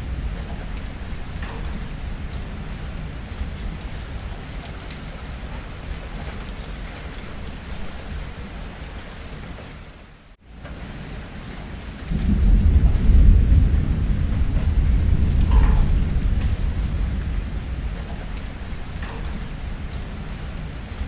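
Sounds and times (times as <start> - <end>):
deep thunder rumble: 0.0 - 8.4, 12.0 - 21.0
steady rainfall: 0.0 - 21.0.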